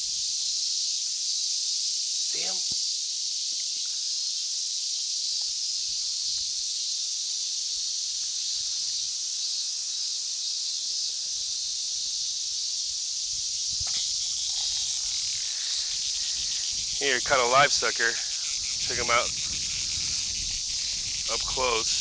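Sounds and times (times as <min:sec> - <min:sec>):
cicadas droning: 0:00.0 - 0:22.0.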